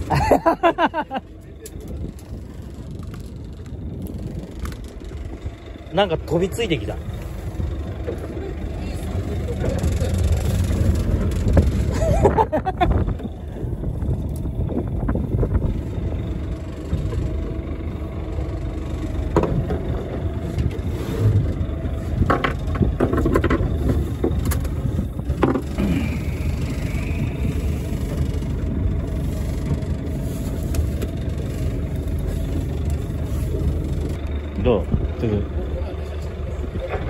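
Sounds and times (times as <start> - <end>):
boat engine idling: 0.0 - 37.0.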